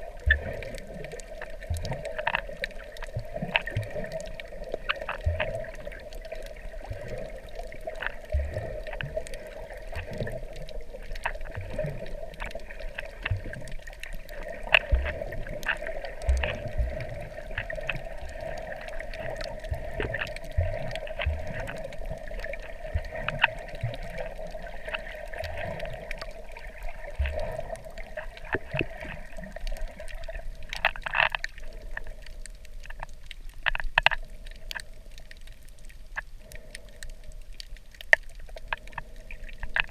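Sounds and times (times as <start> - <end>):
muffled underwater wash: 0.0 - 39.9.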